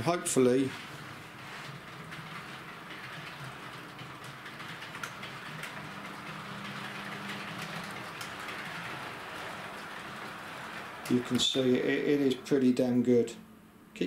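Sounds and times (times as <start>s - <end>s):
model train rolling rumble: 0.0s - 13.3s
low motor hum: 0.8s - 13.0s.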